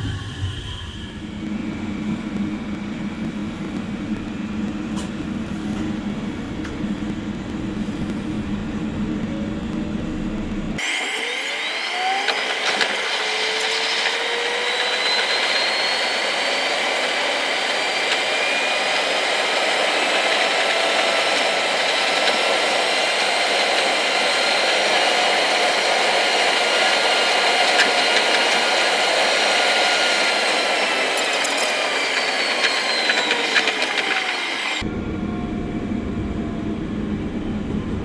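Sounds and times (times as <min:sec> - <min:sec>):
rumble of train ride: 0:00.0 - 0:10.8, 0:17.7 - 0:38.0
electric train motor whine: 0:00.0 - 0:38.0.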